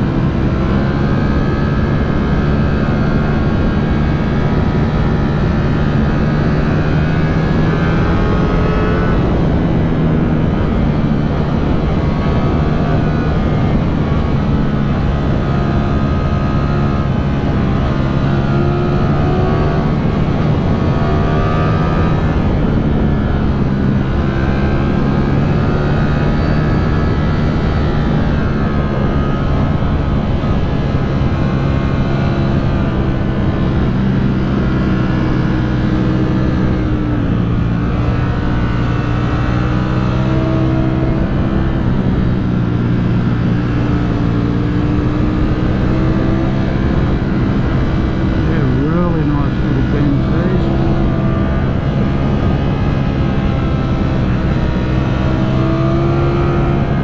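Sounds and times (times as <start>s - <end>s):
motorcycle engine running under load: 0.0s - 57.0s.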